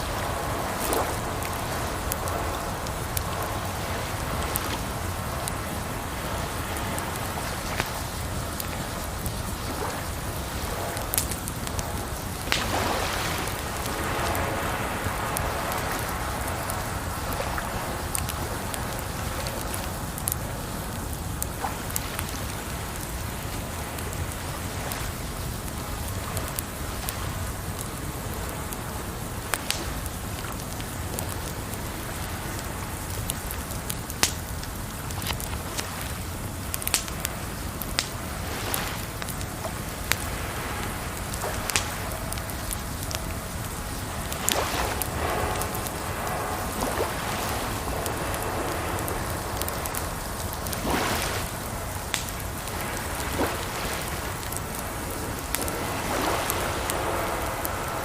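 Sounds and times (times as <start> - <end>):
running water: 0.0 - 58.0
wood fire crackling and popping: 0.0 - 58.0.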